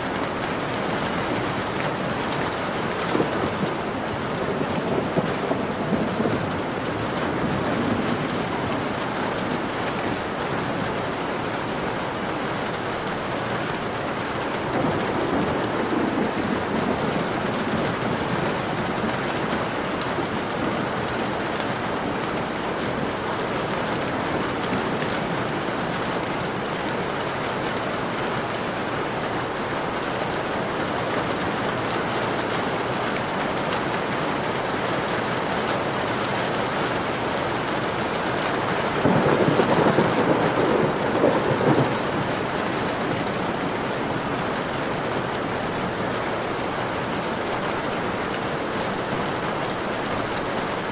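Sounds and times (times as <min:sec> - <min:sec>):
heavy rain on a window: 0:00.0 - 0:50.9.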